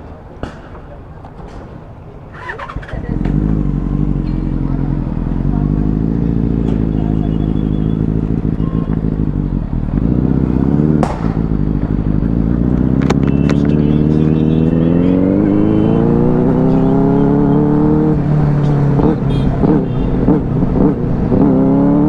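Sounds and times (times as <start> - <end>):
motorcycle engine accelerating: 1.3 - 22.0.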